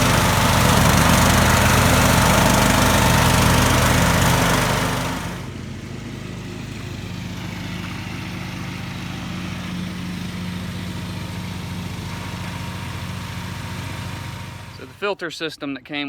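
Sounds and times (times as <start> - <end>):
small gasoline engine running: 0.0 - 15.1.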